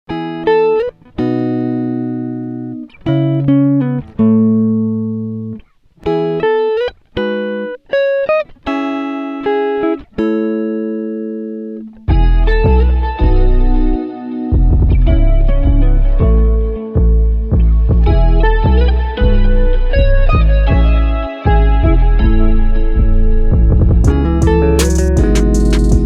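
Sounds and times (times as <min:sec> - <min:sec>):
plucked guitar music: 0:00.1 - 0:26.0.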